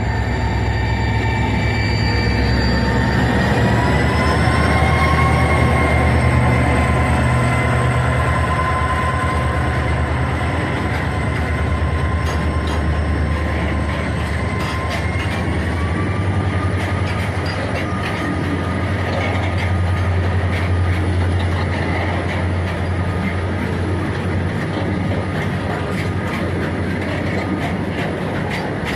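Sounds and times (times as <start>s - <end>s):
diesel locomotive humming: 0.0s - 28.9s.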